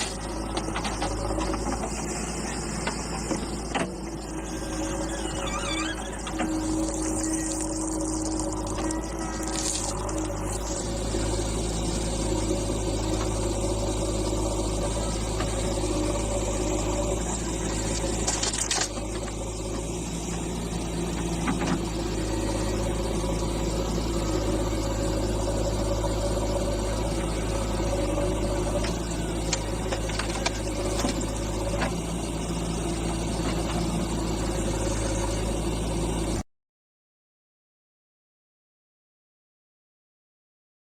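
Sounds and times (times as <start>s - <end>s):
heavy machinery diesel engine: 0.0s - 36.4s.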